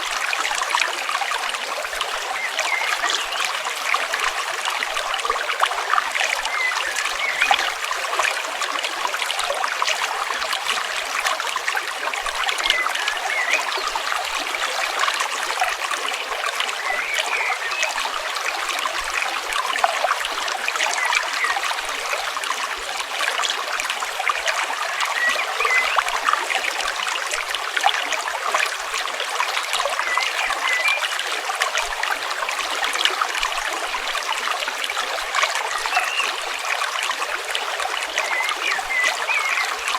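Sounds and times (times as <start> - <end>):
small water splashes: 0.0 - 39.9
stream water trickling: 0.0 - 39.9.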